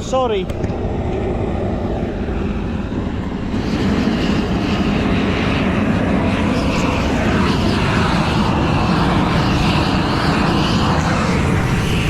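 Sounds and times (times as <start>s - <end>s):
blowtorch flame burning: 0.3s - 12.0s.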